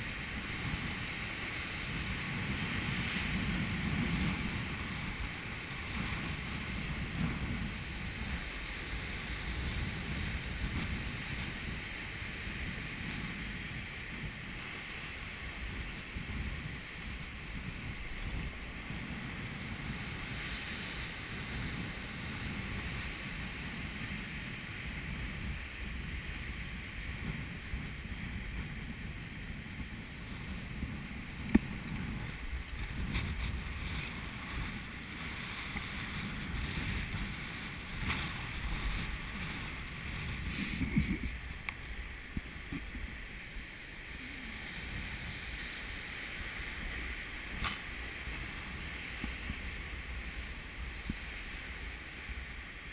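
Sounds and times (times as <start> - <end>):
sea surf breaking over rocks: 0.0 - 52.9
wind buffeting microphone: 0.0 - 52.9.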